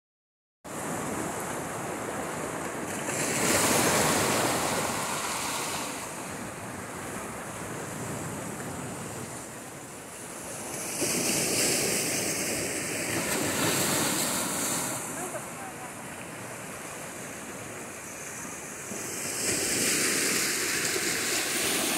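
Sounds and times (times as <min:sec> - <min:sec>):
waves breaking over rocks: 0:00.8 - 0:21.9.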